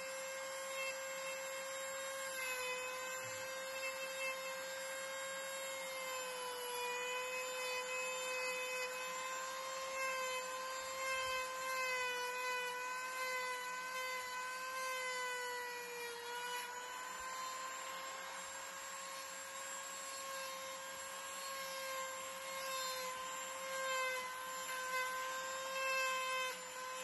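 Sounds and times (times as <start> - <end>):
rotary tool carving wood: 0.0 - 27.0.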